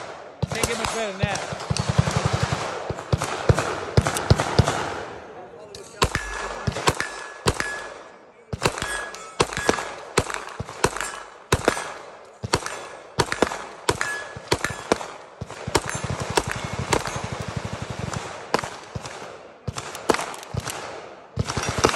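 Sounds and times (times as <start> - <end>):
rapid automatic gunfire: 0.0 - 5.2, 6.0 - 21.9
pistol shots: 0.0 - 21.9.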